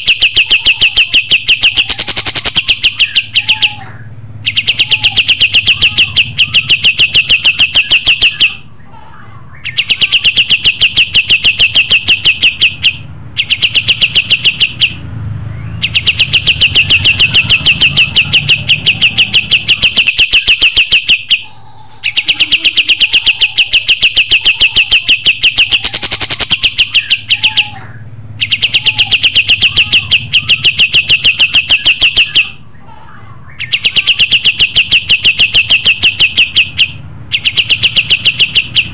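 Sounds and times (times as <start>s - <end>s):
songbird trilling: 0.0s - 8.7s, 9.5s - 32.6s, 33.5s - 38.9s.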